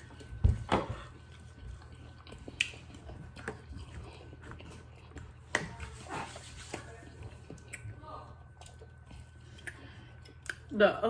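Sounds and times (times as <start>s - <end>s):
chewing with small clicks: 0.0s - 0.4s, 1.0s - 6.0s, 6.7s - 10.8s.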